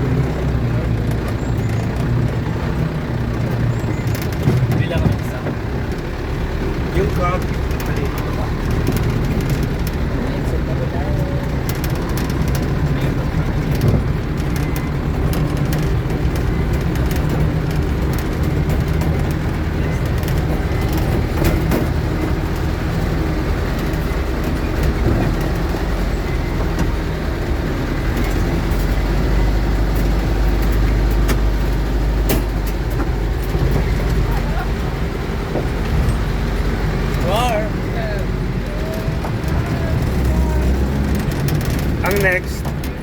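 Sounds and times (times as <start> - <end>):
engine running with low rumble: 0.0 - 43.0
light clicks and rattles: 0.9 - 34.8, 38.7 - 43.0.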